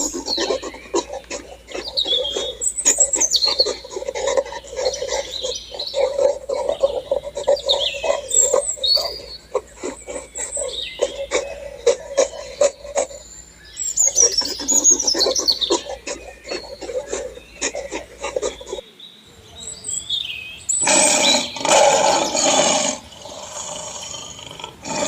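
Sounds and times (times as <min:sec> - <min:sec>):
rapid croaking chatter: 0:00.0 - 0:18.9, 0:20.8 - 0:25.0.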